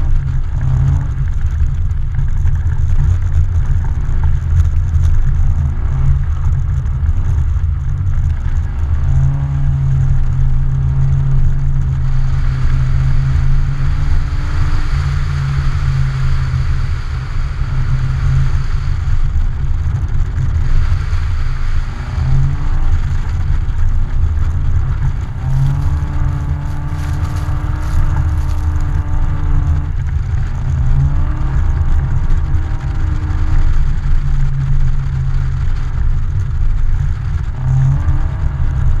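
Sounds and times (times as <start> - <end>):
car engine revving: 0.0 - 39.0
wind noise on microphone: 0.0 - 39.0.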